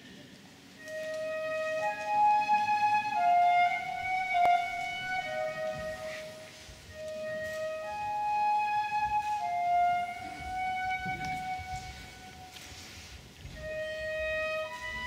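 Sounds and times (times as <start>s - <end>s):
solo flute melody: 0.8s - 15.0s.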